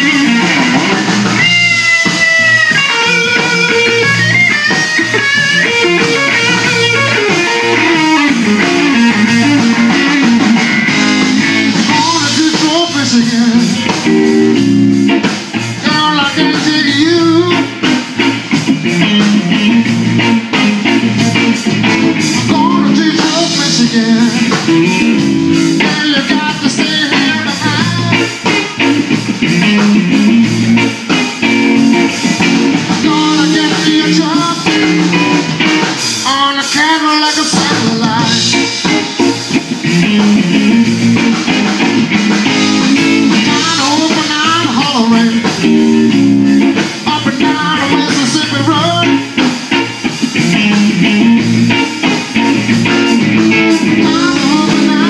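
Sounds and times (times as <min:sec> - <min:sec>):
drum kit: 0:00.0 - 0:55.0
electric bass: 0:00.0 - 0:55.0
electric guitar bent notes: 0:00.0 - 0:55.0.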